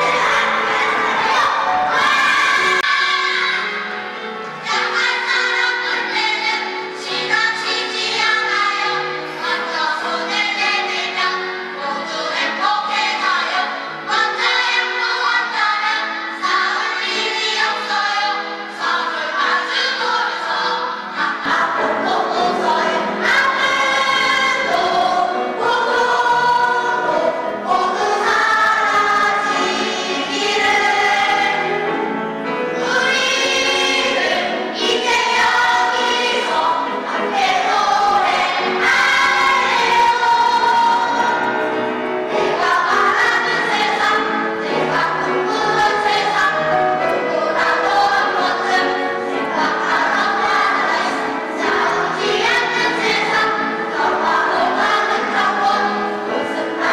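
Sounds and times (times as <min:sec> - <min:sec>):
children's choir singing: 0:00.0 - 0:56.9.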